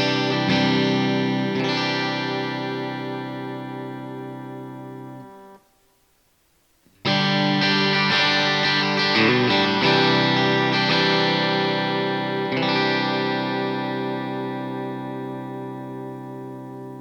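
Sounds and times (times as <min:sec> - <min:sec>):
electric guitar chords: 0:00.0 - 0:05.7, 0:06.9 - 0:17.0.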